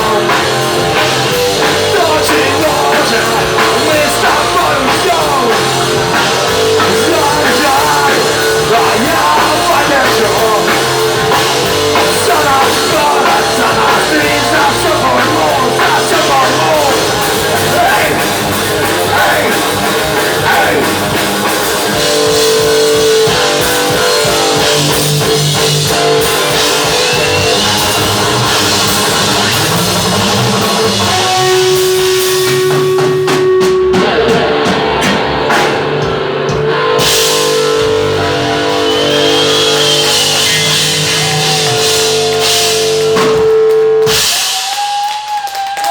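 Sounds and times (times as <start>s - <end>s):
wavering electric guitar: 0.0s - 44.8s
bass: 0.0s - 45.9s
drum kit: 0.0s - 45.9s.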